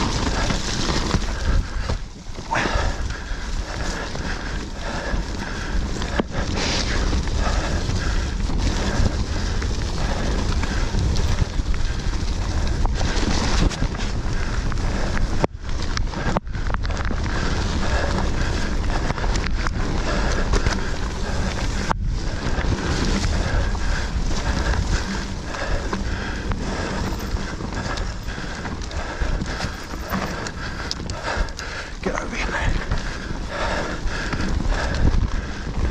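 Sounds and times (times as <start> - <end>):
bike rolling over dirt: 0.0 - 35.9
wind buffeting microphone: 0.0 - 35.9.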